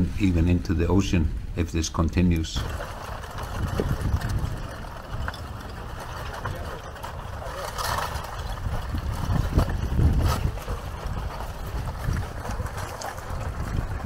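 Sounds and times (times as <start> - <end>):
lava flow crackling: 0.0 - 14.0
loose rock clinking: 1.9 - 14.0
wind on microphone: 2.6 - 14.0.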